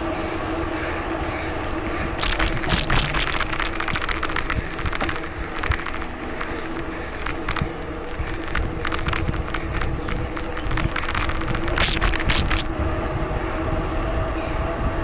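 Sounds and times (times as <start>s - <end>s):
bicycle tyre noise: 0.0s - 15.0s
bike clicks and rattles: 0.0s - 15.0s
wind rumbling on microphone: 0.0s - 15.0s.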